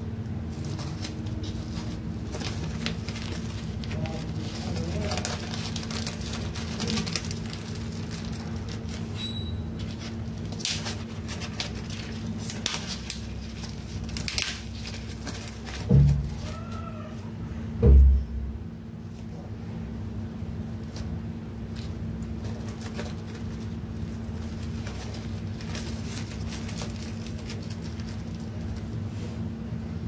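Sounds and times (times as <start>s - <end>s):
plastic gloves crinkling: 0.0s - 17.3s, 20.2s - 29.5s.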